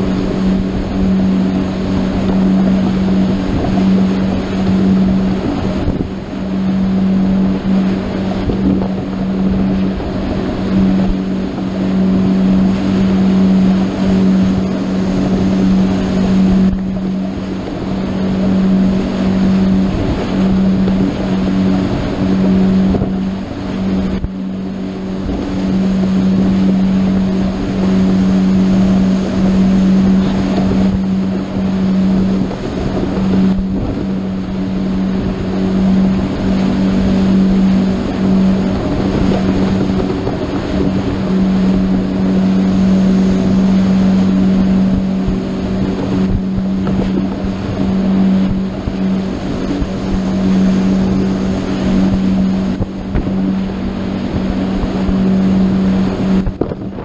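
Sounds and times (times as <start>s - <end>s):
motorboat engine droning: 0.0s - 57.0s
water rushing against hull: 0.0s - 57.0s
wind buffeting microphone: 0.0s - 57.0s.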